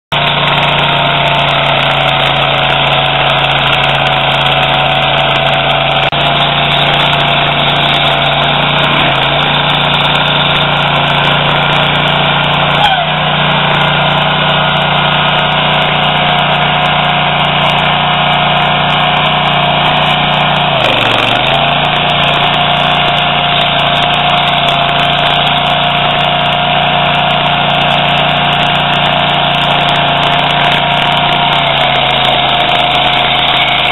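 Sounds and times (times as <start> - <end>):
stump grinder engine running: 0.1 - 33.9.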